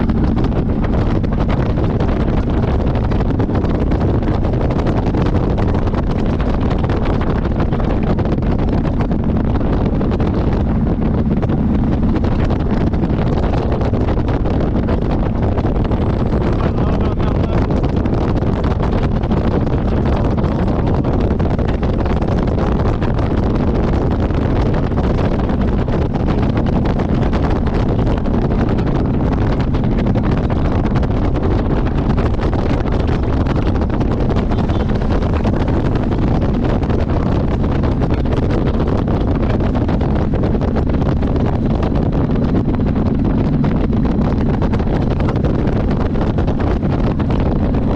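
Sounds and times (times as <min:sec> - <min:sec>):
motorcycle running: 0:00.0 - 0:47.9
wind noise on microphone: 0:00.0 - 0:47.9.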